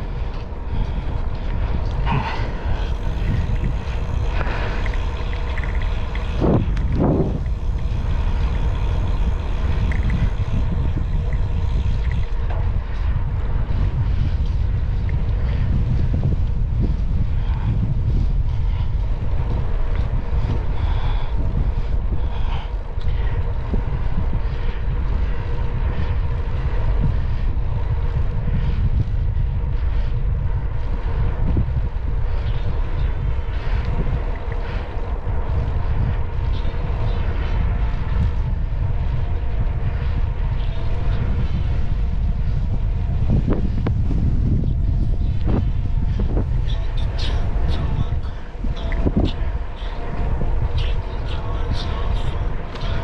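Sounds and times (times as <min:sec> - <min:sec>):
faint steady hum: 0:00.0 - 0:53.0
wind buffeting microphone: 0:00.0 - 0:53.0.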